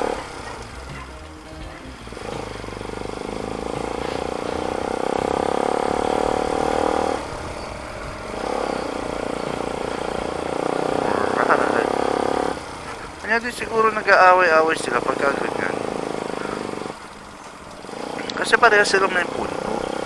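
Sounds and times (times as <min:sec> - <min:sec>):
motorcycle engine under throttle: 0:02.1 - 0:20.0.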